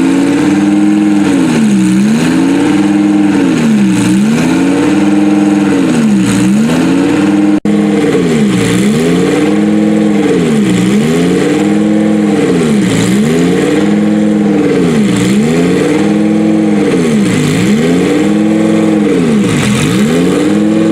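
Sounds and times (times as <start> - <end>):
sports car engine revving: 0.0 - 20.9.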